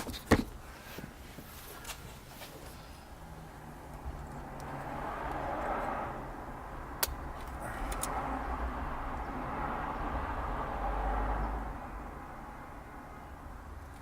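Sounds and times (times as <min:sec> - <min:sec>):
vehicles driving past: 0:00.6 - 0:14.0.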